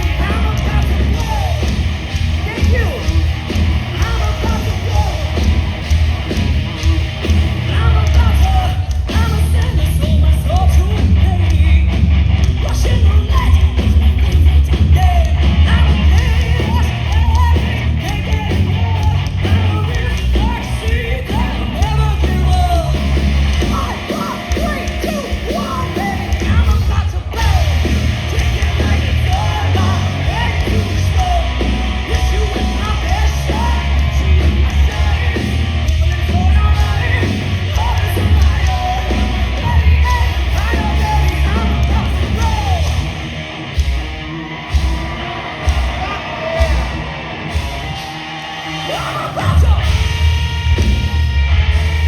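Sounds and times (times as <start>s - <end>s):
singer yelling vocals: 0.0s - 51.8s
live hard rock band: 0.0s - 52.0s.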